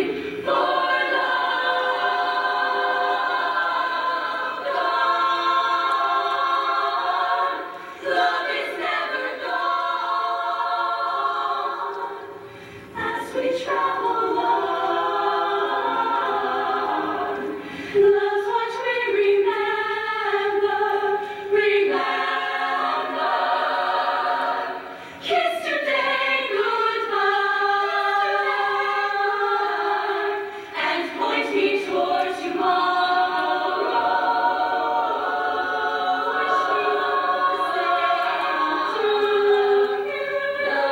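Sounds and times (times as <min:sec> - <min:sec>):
female choir singing in harmony: 0:00.0 - 0:40.9.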